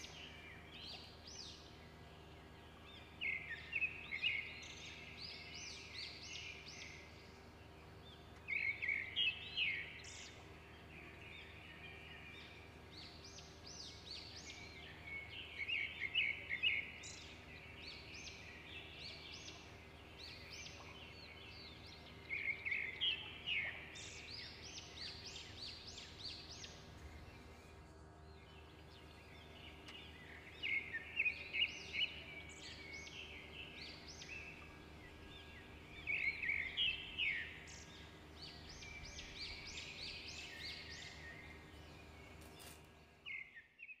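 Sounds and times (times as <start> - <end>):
faint low hum: 0.0 - 43.8
songbird singing: 0.0 - 44.0.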